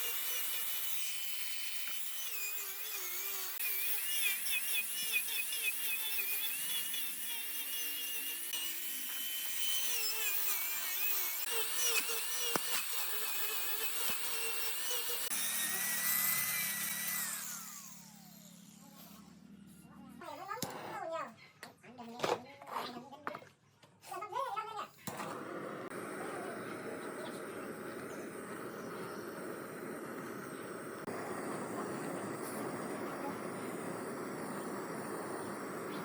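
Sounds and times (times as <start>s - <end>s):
wood lathe whining: 0.0s - 18.8s, 25.1s - 36.0s
tool cutting spinning wood: 0.0s - 19.2s, 25.0s - 36.0s.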